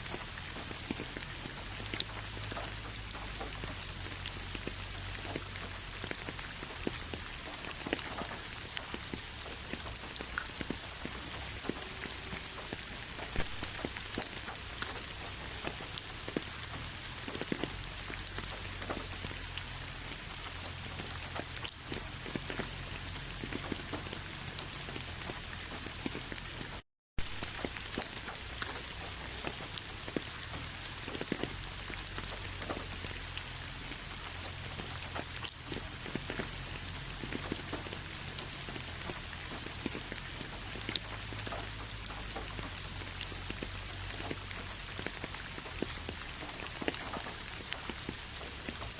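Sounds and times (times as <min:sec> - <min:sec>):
rain falling: 0:00.0 - 0:48.9
raindrops ticking on a surface: 0:00.0 - 0:48.9.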